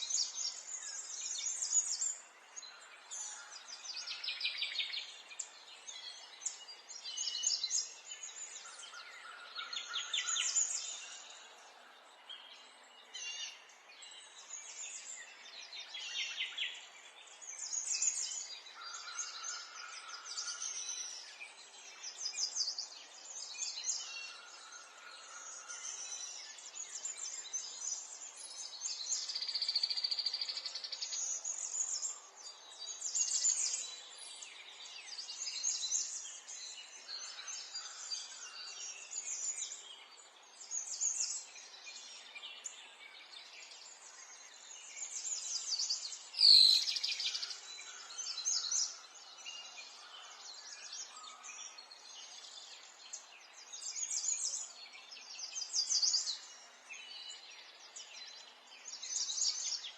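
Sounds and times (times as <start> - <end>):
faint steady outdoor hiss: 0.0 - 59.9
small songbirds singing and chirping: 0.0 - 59.9.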